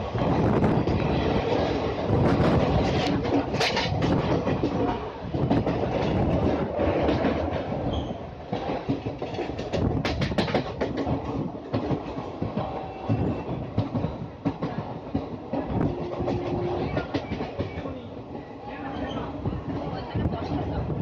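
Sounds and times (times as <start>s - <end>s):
clickety-clack of rail joints: 0.0s - 21.0s
train wheels rumbling: 0.0s - 21.0s.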